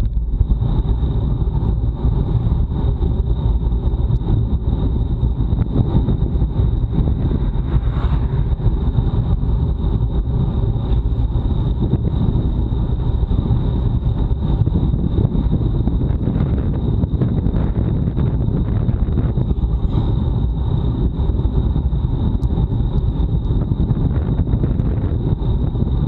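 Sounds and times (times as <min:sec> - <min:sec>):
faint high whine: 0:00.0 - 0:26.0
wind buffeting microphone: 0:00.0 - 0:26.0.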